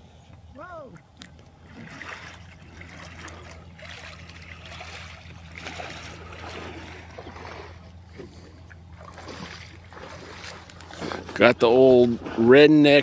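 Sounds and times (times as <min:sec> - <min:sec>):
low steady hum: 0:00.0 - 0:13.0
water sloshing and trickling: 0:01.0 - 0:13.0.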